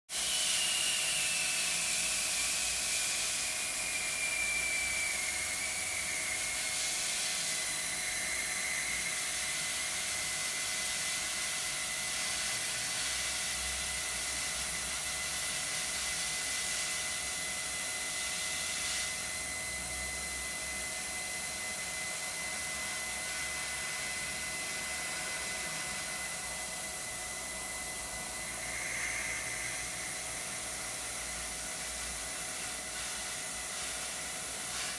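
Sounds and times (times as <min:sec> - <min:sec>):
airbrush hiss of compressed air: 0:00.1 - 0:34.9
thin high whistle: 0:00.2 - 0:10.6, 0:12.1 - 0:34.9.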